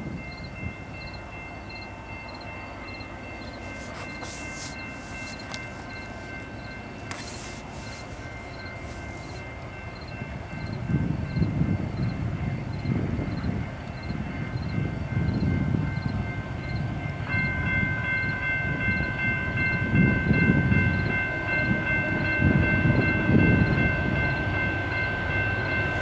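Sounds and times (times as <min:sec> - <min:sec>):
freight train rumble: 0:00.0 - 0:26.0.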